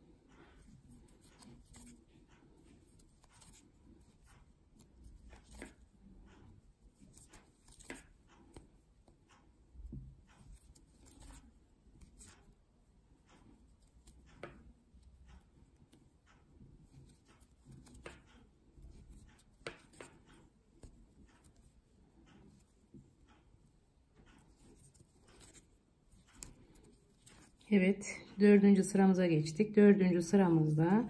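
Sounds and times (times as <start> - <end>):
crochet hook and yarn rustling: 0.0 - 28.6.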